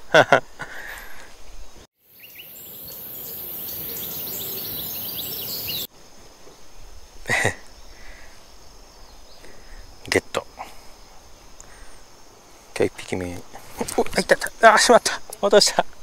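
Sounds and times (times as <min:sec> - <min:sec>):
insects chirring: 0:00.1 - 0:16.0.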